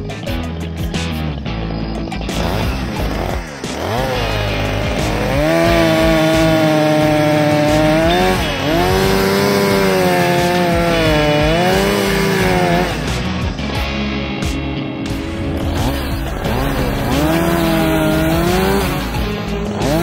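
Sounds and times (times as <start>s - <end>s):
chainsaw cutting wood: 2.1s - 14.2s, 15.1s - 20.0s.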